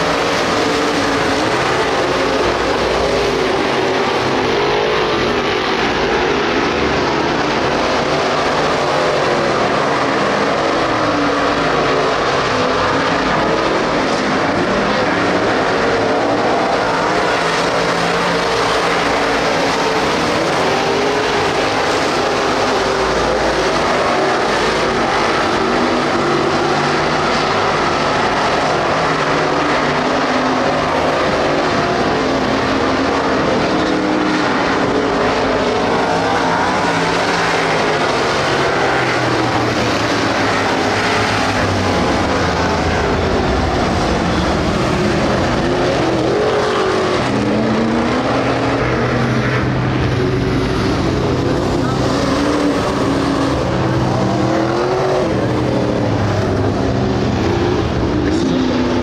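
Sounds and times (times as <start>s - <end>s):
race car engines at full throttle: 0.0s - 59.0s.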